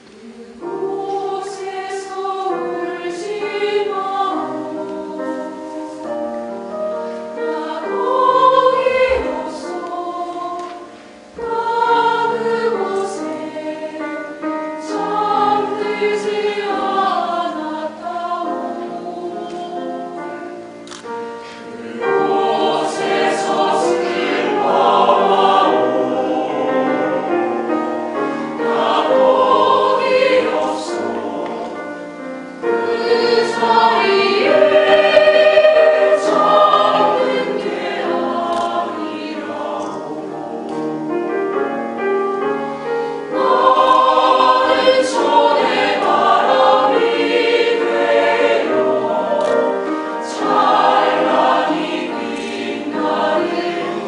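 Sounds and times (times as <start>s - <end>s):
mixed choir singing in harmony: 0.0s - 54.0s.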